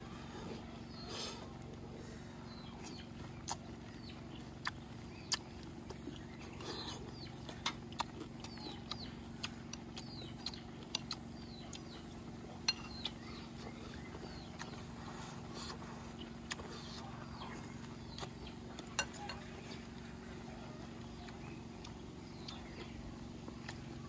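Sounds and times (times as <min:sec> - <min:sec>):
chewing crisp shells: 0:02.5 - 0:24.0.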